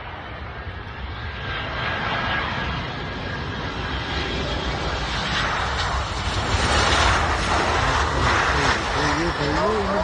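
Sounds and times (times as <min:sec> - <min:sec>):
jet engines rushing: 0:00.0 - 0:10.0.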